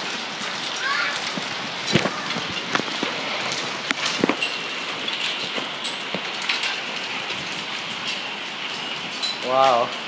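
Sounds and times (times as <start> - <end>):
hailstones striking surfaces: 0.0 - 10.0
rain hissing: 0.0 - 10.0.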